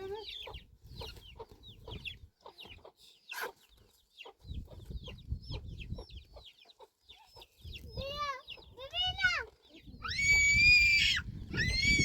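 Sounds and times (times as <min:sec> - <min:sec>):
chickens clucking: 0:00.0 - 0:09.9.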